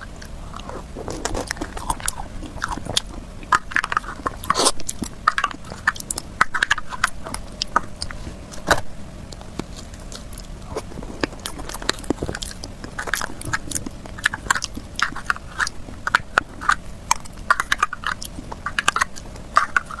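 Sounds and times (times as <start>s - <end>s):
mouth clicks: 0.0s - 20.0s
person chewing cake: 0.0s - 20.0s.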